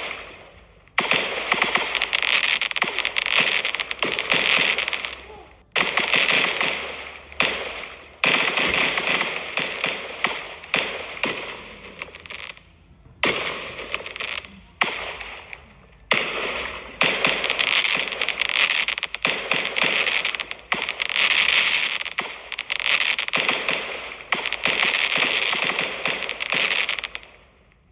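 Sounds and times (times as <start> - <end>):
fireworks bursting and crackling: 0.0 - 27.9.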